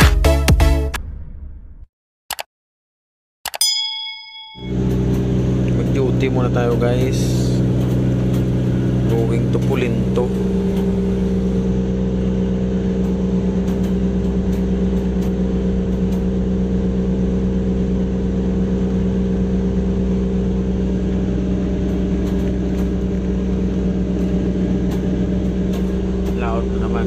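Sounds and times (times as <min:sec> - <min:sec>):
boat engine droning: 0:03.7 - 0:27.0.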